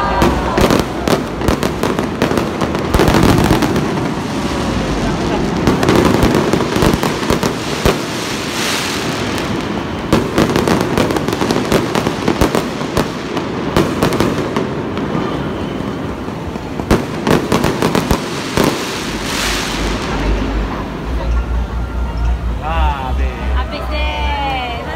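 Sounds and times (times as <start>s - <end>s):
fireworks bangs and crackling: 0.0s - 21.4s.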